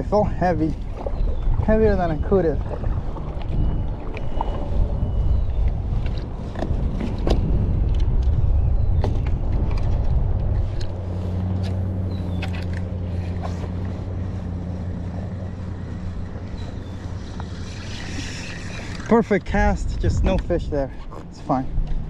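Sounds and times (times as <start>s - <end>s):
low motor hum: 0.0s - 22.0s
wind rumbling on microphone: 0.0s - 22.0s.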